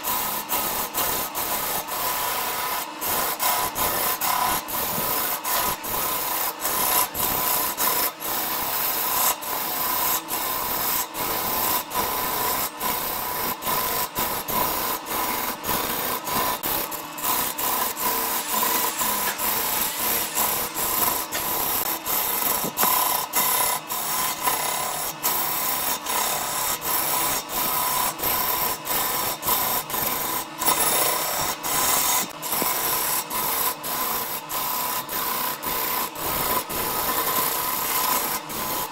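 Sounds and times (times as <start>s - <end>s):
lathe gouge scraping wood: 0.0s - 38.9s.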